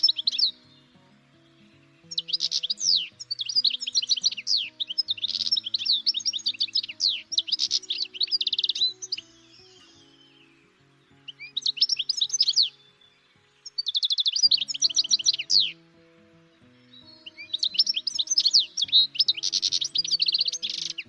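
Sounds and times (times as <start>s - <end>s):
quiet background music: 0.0s - 21.0s
songbird chirping: 0.0s - 21.0s.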